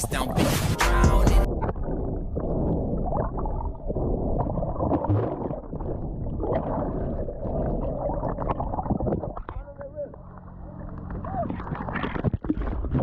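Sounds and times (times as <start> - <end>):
underwater gurgling and sloshing: 1.4 - 13.0.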